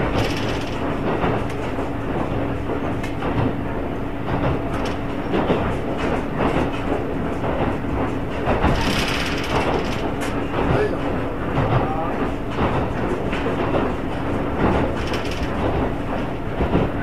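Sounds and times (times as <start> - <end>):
diesel railcar engine drone: 0.0 - 17.0
wheels clacking over rail joints: 0.0 - 17.0.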